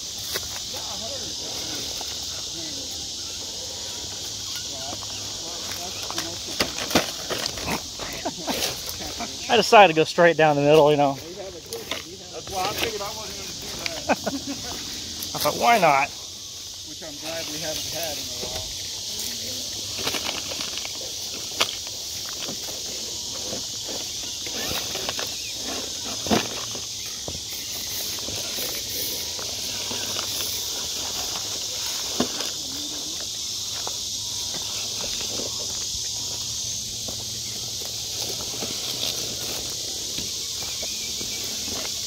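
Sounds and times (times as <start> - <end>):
night insects chorus: 0.0 - 42.0.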